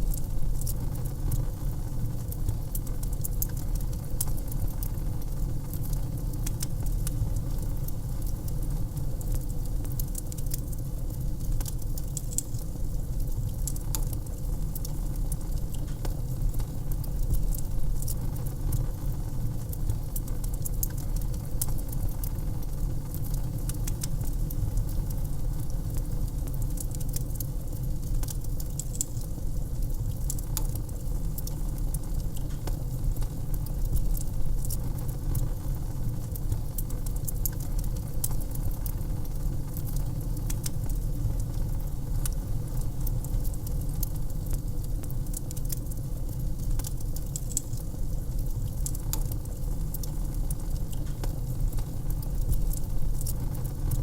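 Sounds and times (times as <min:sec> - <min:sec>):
fire crackling and popping: 0:00.0 - 0:54.0
low rumble of fire: 0:00.0 - 0:54.0.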